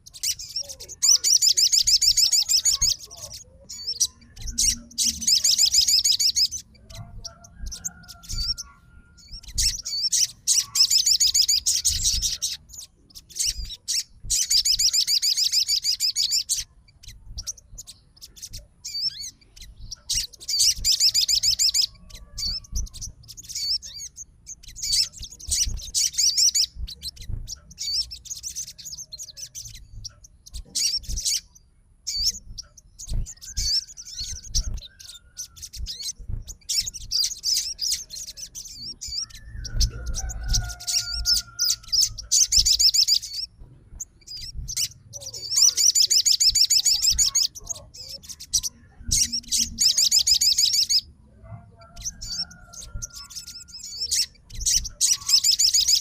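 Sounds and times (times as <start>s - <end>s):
bird rattling trills: 0.0s - 31.5s, 32.1s - 51.0s.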